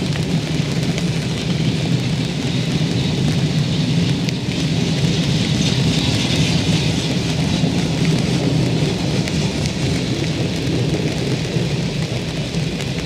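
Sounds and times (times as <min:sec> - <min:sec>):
raindrop ticks: 0:00.0 - 0:13.0
steady rain falling: 0:00.0 - 0:13.0.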